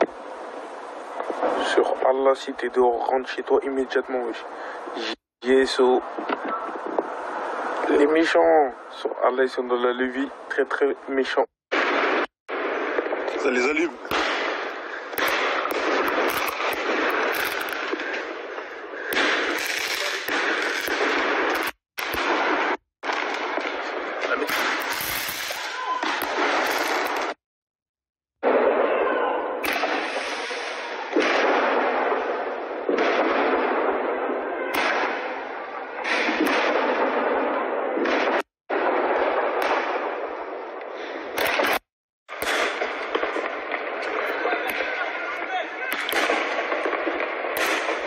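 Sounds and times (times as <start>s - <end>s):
continuous noisy rush: 0.0s - 27.4s, 28.4s - 48.0s
firework bangs and crackling: 0.0s - 27.4s, 28.4s - 48.0s.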